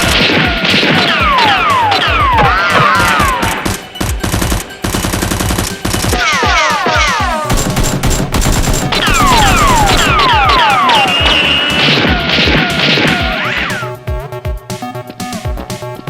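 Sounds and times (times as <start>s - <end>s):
rapid gunshot sound effects: 0.0s - 14.0s
background music: 0.0s - 16.0s.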